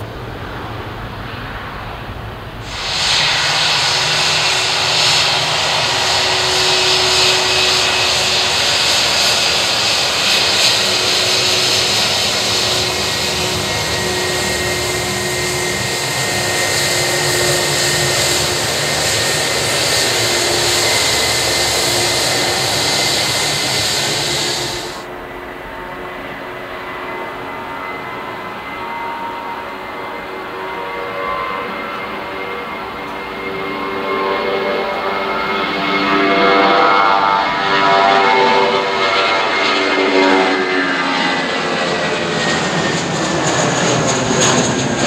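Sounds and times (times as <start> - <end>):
jet engines whining: 0.0 - 45.0.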